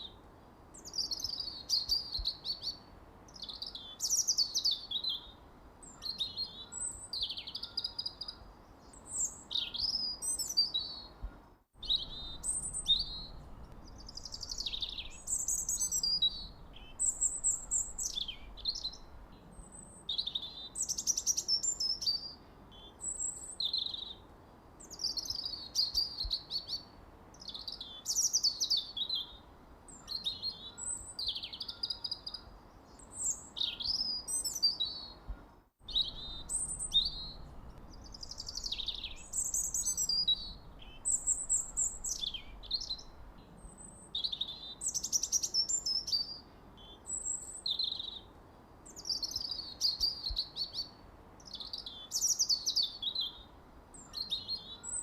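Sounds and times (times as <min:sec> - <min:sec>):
songbirds chirping and singing: 0:00.8 - 0:24.2, 0:24.9 - 0:48.3.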